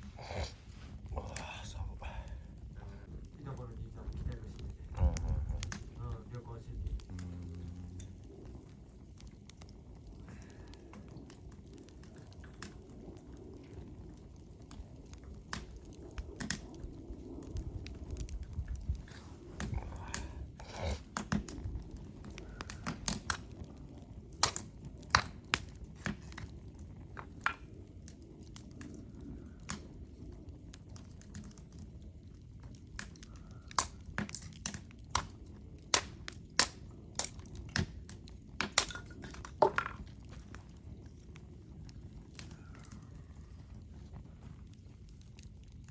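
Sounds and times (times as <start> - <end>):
low steady hiss: 0.0 - 44.0
wood fire crackling and popping: 0.0 - 45.9.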